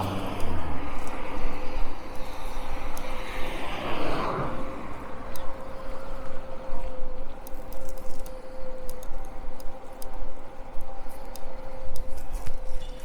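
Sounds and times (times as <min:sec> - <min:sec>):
bike ticks and rattles: 0:00.0 - 0:13.0.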